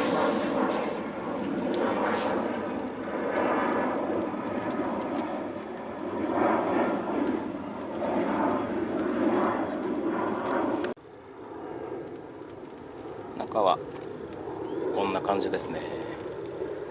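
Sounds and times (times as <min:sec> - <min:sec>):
aircraft roar overhead: 0:00.0 - 0:16.9.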